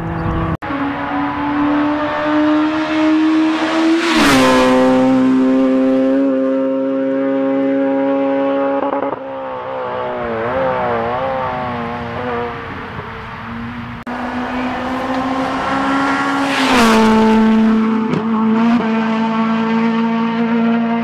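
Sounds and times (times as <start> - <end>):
rally car passing at full throttle: 0.0 - 21.0.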